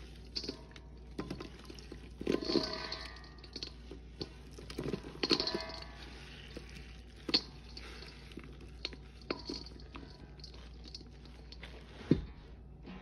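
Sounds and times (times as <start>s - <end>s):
dried paste crunching in metal bowl: 0.0s - 12.3s.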